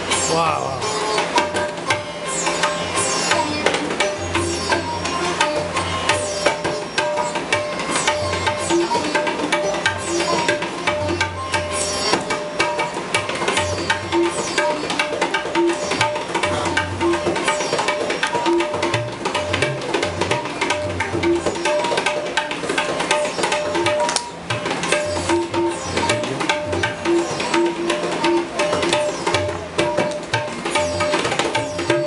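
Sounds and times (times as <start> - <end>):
sitar plucked strings: 0.0 - 32.0
tabla drumming: 0.0 - 32.0.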